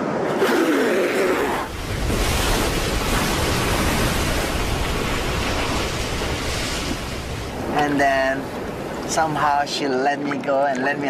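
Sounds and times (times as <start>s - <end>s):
heavy surf breaking: 0.0s - 9.8s.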